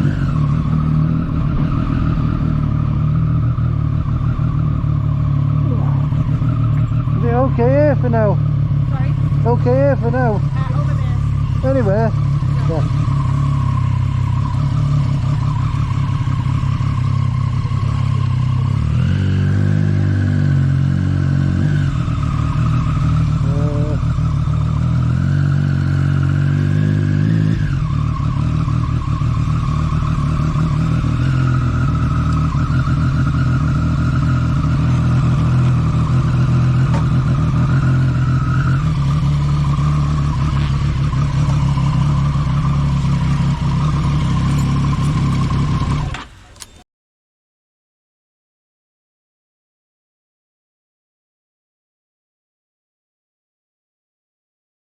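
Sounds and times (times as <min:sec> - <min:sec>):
motorcycle engine revving: 0:00.0 - 0:46.8.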